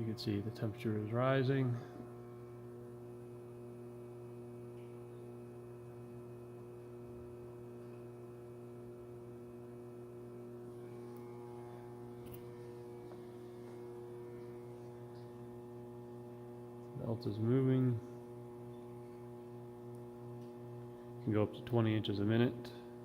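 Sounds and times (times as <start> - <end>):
furnace electrical hum: 0.0 - 23.0.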